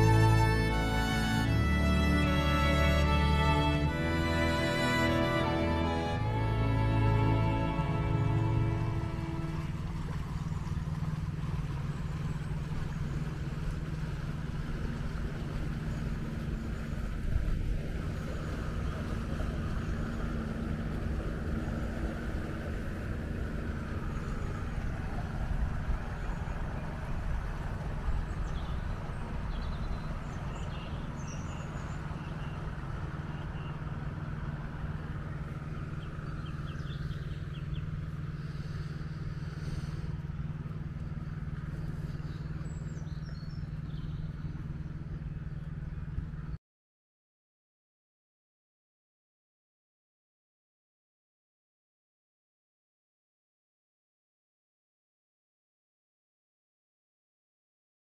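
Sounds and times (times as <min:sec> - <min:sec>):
outboard engine running: 0:00.0 - 0:46.6
wind rumbling on microphone: 0:00.0 - 0:46.6.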